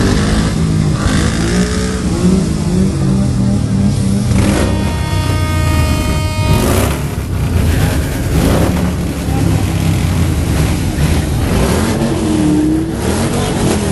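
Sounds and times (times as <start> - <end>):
motorcycle engines revving: 0.0 - 13.9
crowd voices: 2.0 - 13.9.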